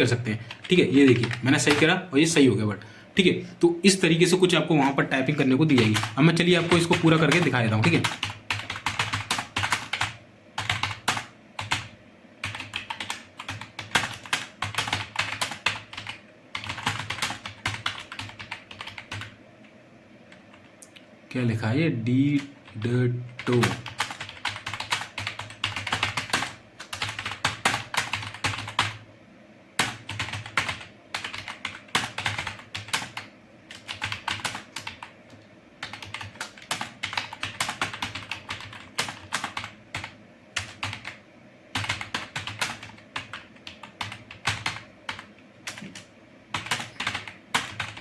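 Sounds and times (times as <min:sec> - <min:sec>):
computer keyboard typing: 0:00.0 - 0:02.0, 0:04.5 - 0:19.4, 0:22.3 - 0:29.0, 0:29.8 - 0:48.0.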